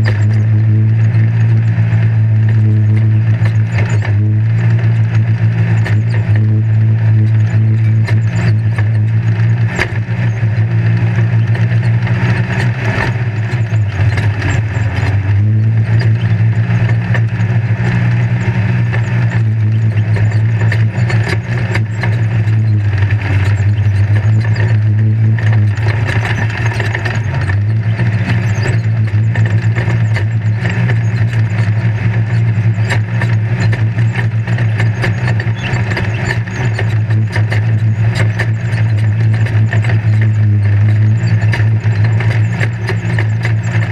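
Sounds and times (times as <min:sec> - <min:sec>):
vehicle engine running under load: 0:00.0 - 0:43.9
vehicle rattling over rough ground: 0:00.0 - 0:43.9.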